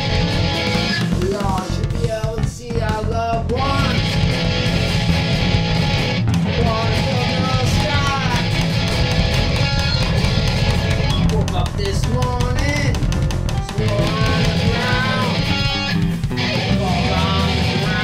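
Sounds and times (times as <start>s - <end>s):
loud rock music: 0.0s - 18.0s.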